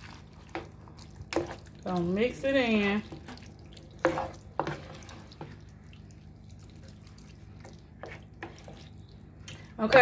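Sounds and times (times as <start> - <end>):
spoon stirring thick sauce: 0.0 - 10.0.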